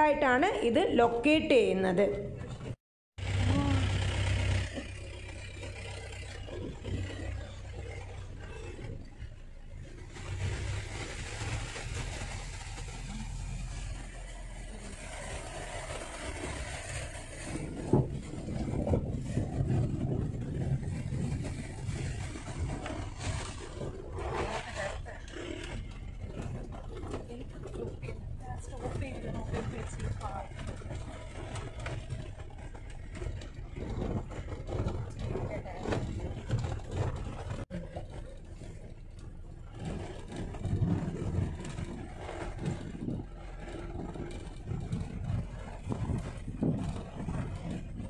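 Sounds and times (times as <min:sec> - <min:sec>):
jeep engine running: 0:00.0 - 0:48.0.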